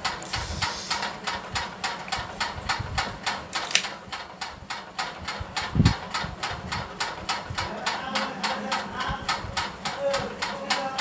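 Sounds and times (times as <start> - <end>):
mechanical ticking: 0.0 - 11.0.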